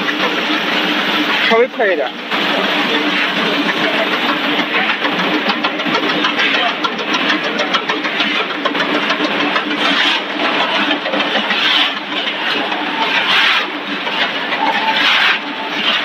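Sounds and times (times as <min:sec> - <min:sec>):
processing machine humming and clattering: 0:00.0 - 0:16.0.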